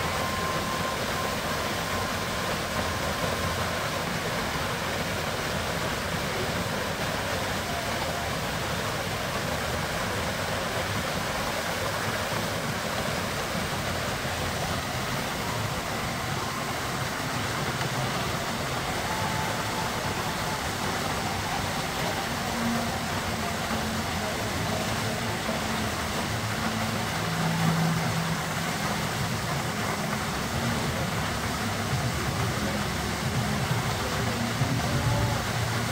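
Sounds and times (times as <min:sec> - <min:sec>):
fountain water splashing: 0:00.0 - 0:35.9.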